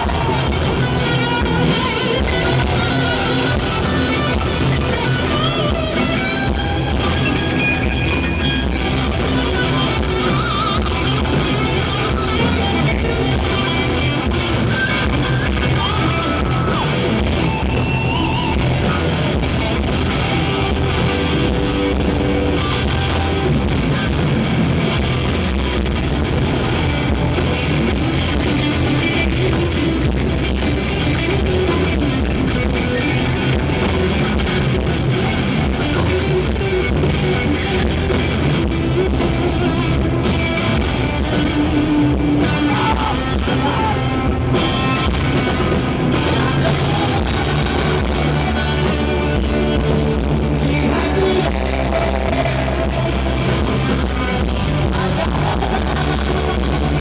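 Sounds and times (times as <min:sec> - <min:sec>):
driving drum beat: 0:00.0 - 0:57.0
electric guitars: 0:00.0 - 0:57.0.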